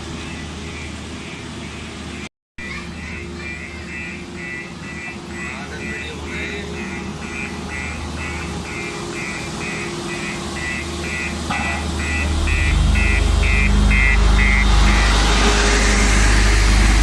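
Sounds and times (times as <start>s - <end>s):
engine rumble: 0.0s - 17.0s
reversing alarm beeping: 0.0s - 17.0s.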